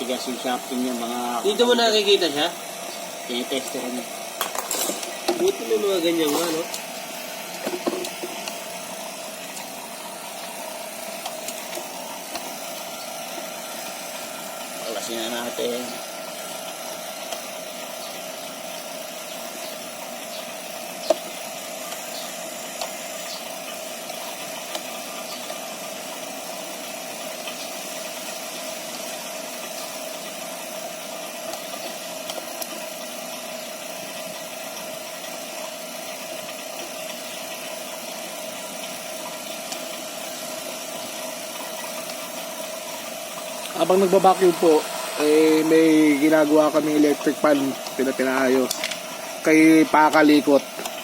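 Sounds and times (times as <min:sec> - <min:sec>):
vacuum pump running: 0:00.0 - 0:51.0.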